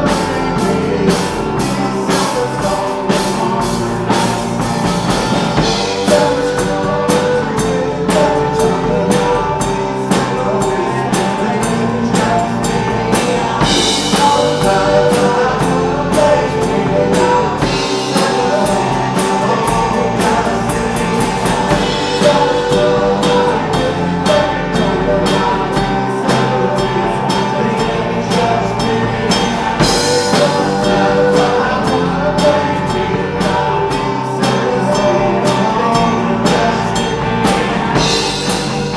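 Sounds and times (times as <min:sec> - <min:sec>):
drum kit beat: 0:00.0 - 0:38.9
electric guitar: 0:00.0 - 0:38.9
rock band playing: 0:00.0 - 0:38.9.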